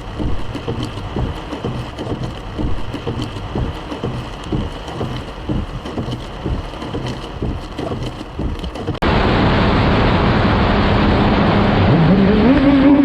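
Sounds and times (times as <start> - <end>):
wind-buffeted rumbling and knocks: 0.0 - 10.4
engine hum: 0.0 - 13.0
wind and road noise: 0.0 - 13.0.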